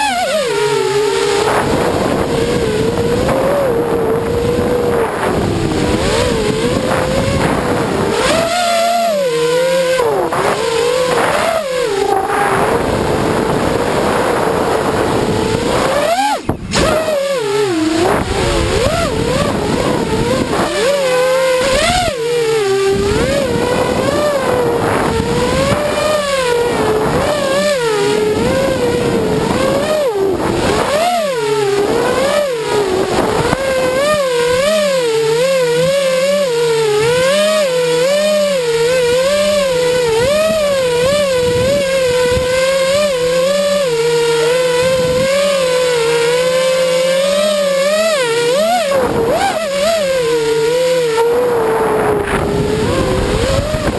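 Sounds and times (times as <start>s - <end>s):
drone propellers whining: 0.0s - 53.9s.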